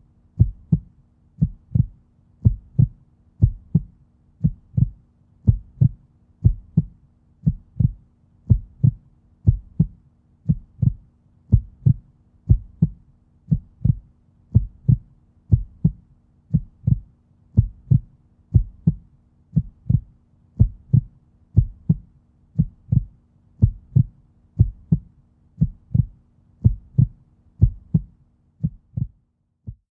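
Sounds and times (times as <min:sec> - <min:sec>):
heartbeat thumps: 0:00.4 - 0:29.9.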